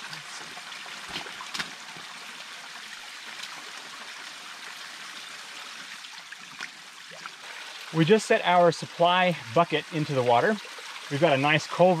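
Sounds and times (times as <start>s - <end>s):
creek water pouring from culvert: 0.0s - 12.0s.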